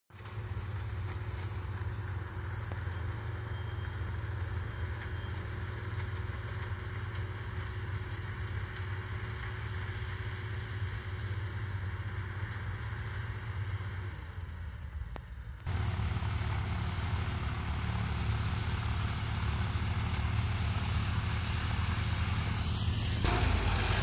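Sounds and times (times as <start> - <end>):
distant engines humming: 0.1 - 24.0.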